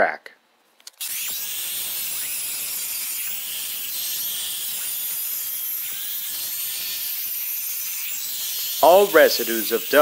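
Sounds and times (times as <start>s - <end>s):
angle grinder cutting concrete: 1.0s - 10.0s.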